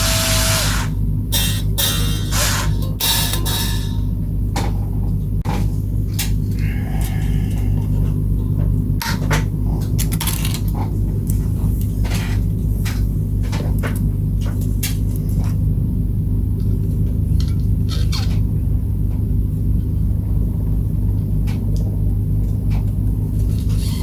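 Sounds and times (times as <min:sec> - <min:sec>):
loud low machine hum: 0:00.0 - 0:24.0.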